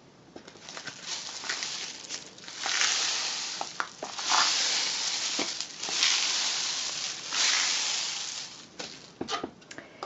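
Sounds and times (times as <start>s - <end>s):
rain stick rushing hiss: 0.6s - 9.2s.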